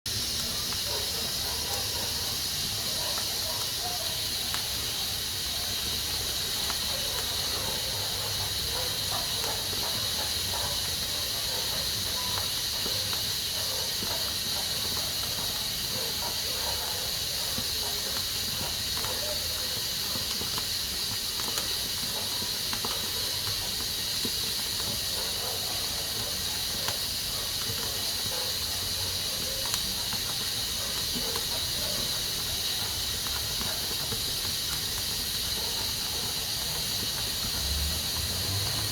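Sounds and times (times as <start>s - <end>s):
pressure cooker hissing: 0.1s - 38.9s.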